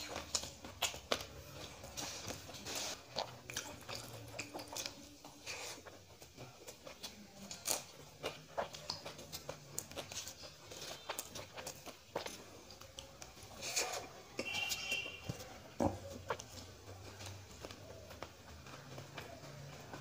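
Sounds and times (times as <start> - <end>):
man chewing food: 0.0 - 20.0.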